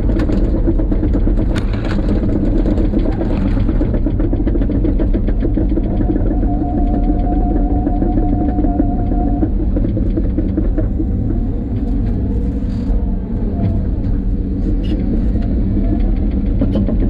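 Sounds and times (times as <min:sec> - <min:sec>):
motor pulsing: 0:00.0 - 0:17.0.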